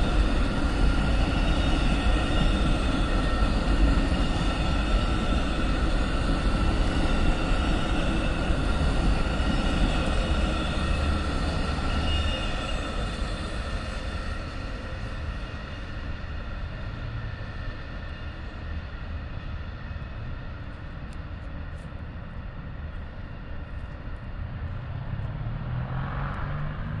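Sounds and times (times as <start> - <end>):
train cars rumbling past: 0.0 - 27.0.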